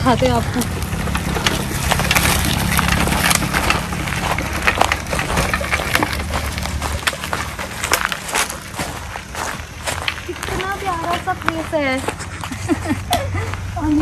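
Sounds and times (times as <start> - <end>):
bike tyres crackling over twigs: 0.0 - 13.8
steady low rumble: 0.0 - 14.0.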